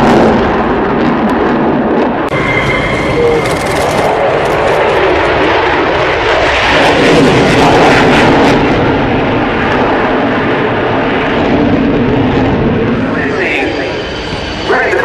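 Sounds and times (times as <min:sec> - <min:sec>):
fighter jet roaring: 0:00.0 - 0:15.0.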